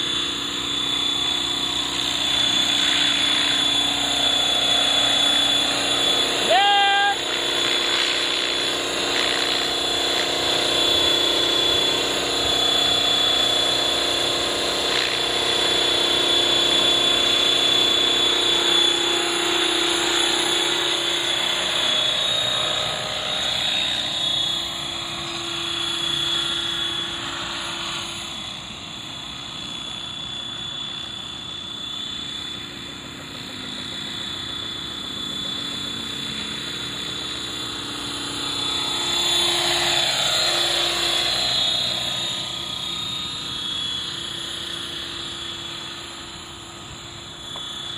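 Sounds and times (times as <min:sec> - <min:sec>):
model helicopter whine: 0:00.0 - 0:47.9
spinning rotors whirring: 0:00.0 - 0:47.9.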